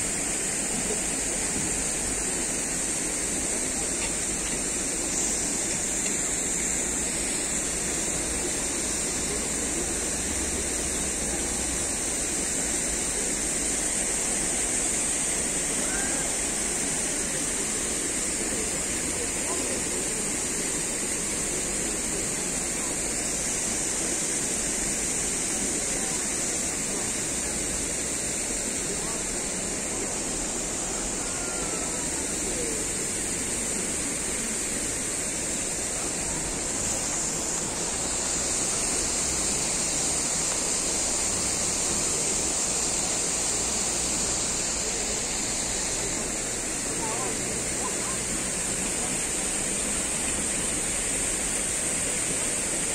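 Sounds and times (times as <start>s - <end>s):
fountain water splashing: 0.0s - 52.9s.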